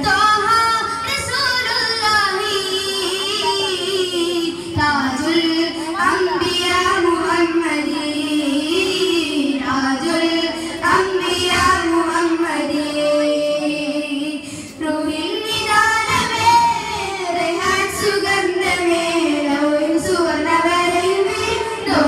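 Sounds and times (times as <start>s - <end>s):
boys singing into microphones: 0.0s - 22.0s.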